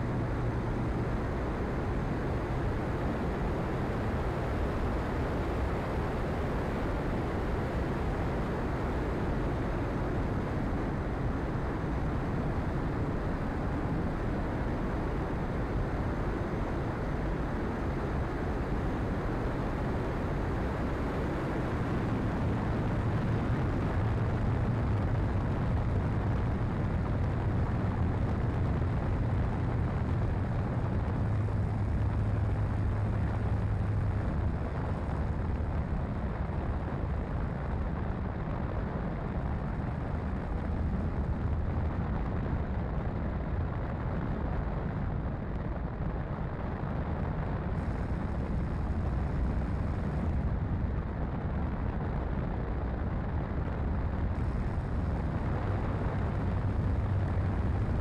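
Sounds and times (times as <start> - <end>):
wind rush: 0.0 - 58.0.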